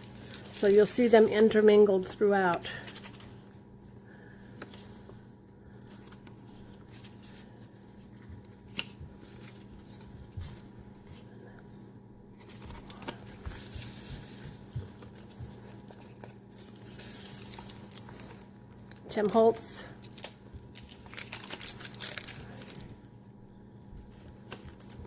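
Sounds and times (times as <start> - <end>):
paper pages rustling: 0.0 - 3.6, 4.2 - 11.3, 12.4 - 22.9, 23.9 - 25.0
faint steady hum: 0.0 - 25.0.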